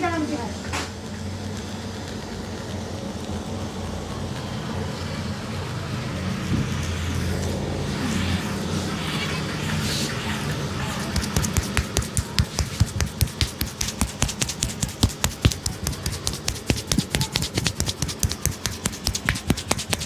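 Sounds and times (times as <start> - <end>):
street traffic noise: 0.0 - 20.0
vehicle engine running: 1.4 - 20.0.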